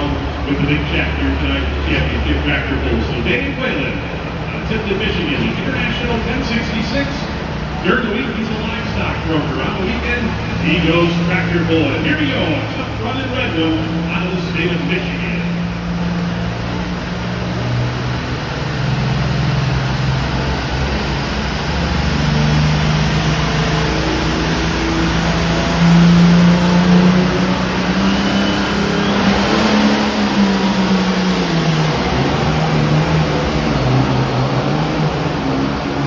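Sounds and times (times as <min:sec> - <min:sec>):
diesel tractor engine under load: 0:00.0 - 0:36.0.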